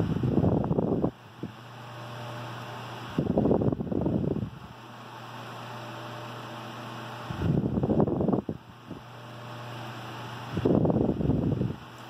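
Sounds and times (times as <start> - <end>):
desk fan motor hum: 0.0 - 12.0
fan airflow buffeting microphone: 0.0 - 12.0.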